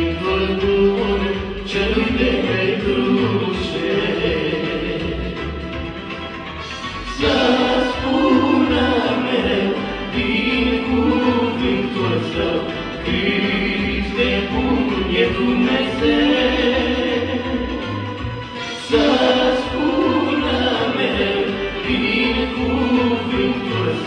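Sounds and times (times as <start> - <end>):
choir singing gospel song: 0.0 - 6.0, 6.6 - 24.0.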